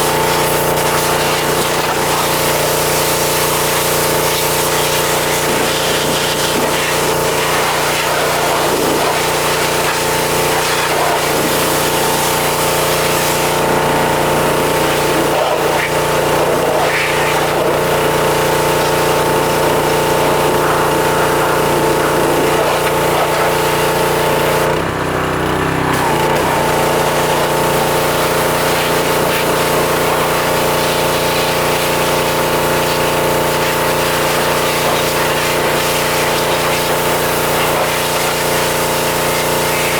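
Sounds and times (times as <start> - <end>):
high-pressure water spray hissing: 0.0 - 24.7, 25.9 - 39.9
pressure washer motor humming: 0.0 - 39.9.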